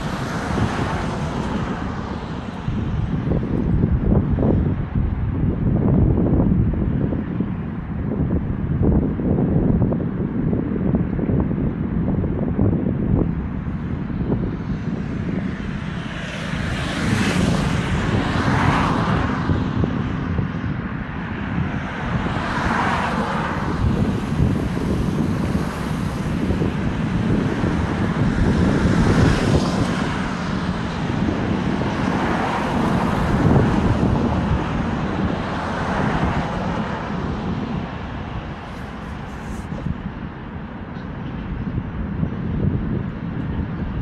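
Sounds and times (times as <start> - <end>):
cars driving past: 0.0 - 5.5, 13.8 - 44.0
low traffic hum: 0.0 - 44.0.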